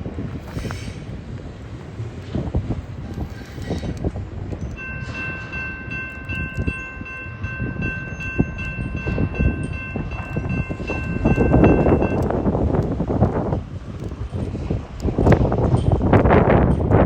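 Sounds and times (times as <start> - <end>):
train cars rumbling on rails: 0.0 - 17.0.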